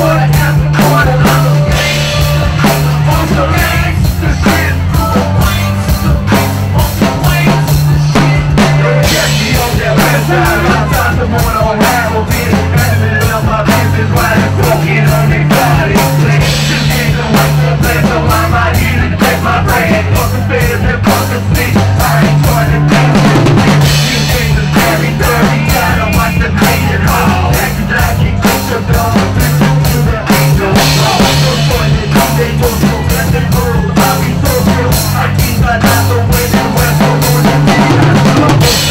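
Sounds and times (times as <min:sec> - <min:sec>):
deep repeating bass line: 0:00.0 - 0:38.9
drum kit beat: 0:00.0 - 0:38.9.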